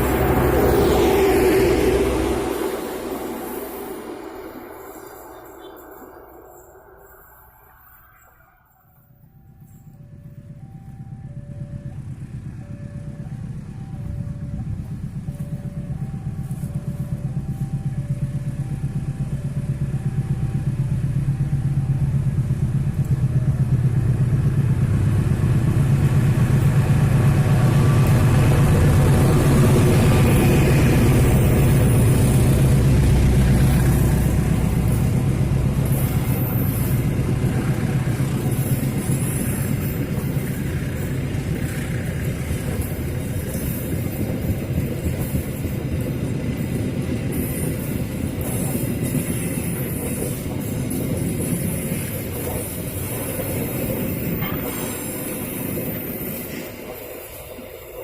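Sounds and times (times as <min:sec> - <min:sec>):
train passing with low rumble: 0:00.0 - 0:58.0.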